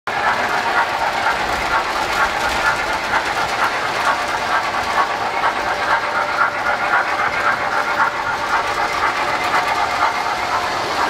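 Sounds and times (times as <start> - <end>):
model trains whirring: 0.1 - 11.0.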